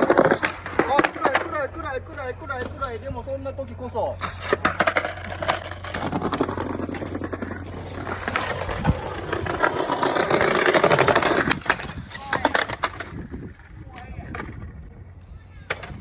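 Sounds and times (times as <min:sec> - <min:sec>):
skateboard wheels rolling: 0:00.0 - 0:16.0.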